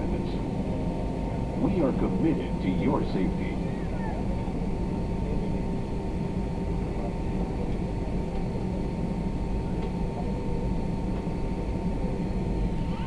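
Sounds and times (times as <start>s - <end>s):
airliner cabin low rumble: 0.0s - 13.0s
steady high whine: 0.0s - 13.0s.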